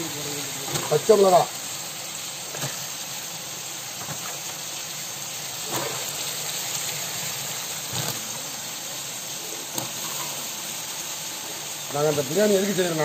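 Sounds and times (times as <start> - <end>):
shallots frying in hot oil: 0.0 - 13.0.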